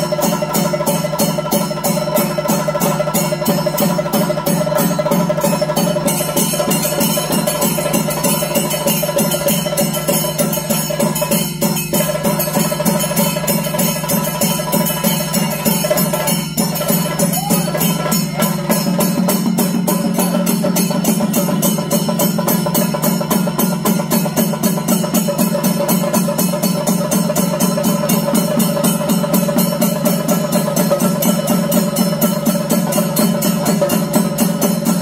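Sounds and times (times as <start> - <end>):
percussion music drum and metal strikes: 0.0 - 35.0.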